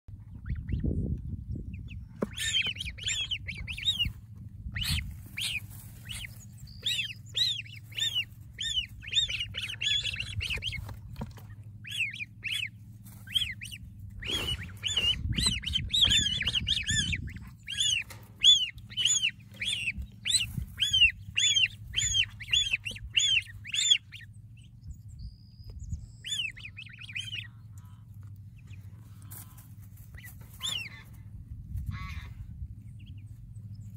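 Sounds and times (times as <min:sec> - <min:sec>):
ducklings peeping: 0:00.1 - 0:33.9.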